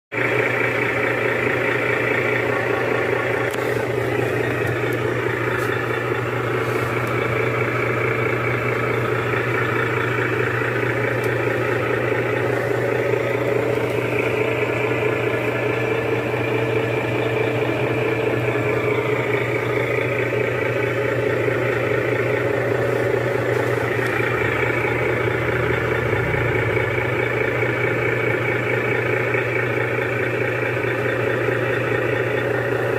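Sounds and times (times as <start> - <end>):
recorded car engine idling: 0.1 - 32.9.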